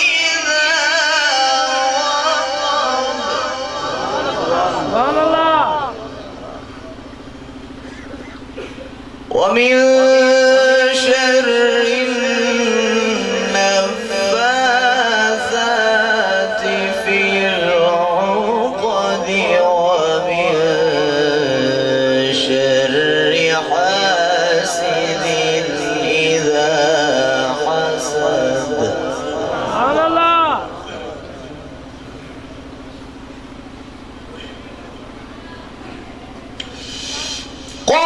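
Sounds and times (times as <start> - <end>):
man reciting melodically: 0.0 - 33.4, 36.6 - 38.0.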